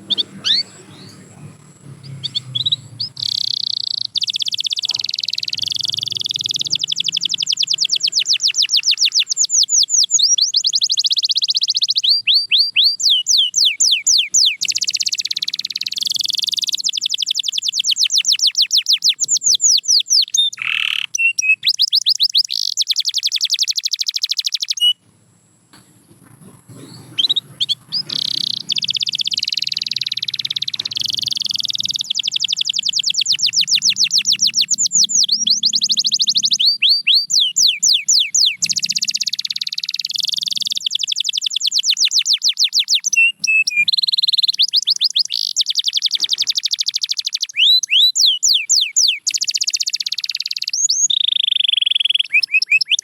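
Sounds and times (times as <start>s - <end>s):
canary singing in trills: 0.0s - 25.1s, 25.8s - 53.0s.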